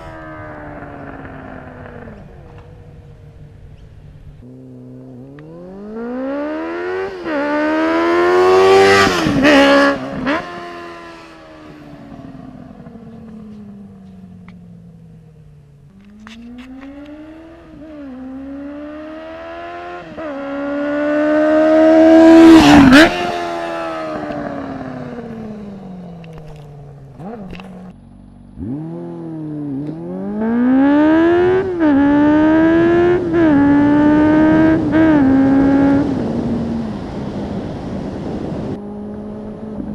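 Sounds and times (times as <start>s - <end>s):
motorcycle engine revving past: 0.0s - 14.8s, 16.0s - 39.9s.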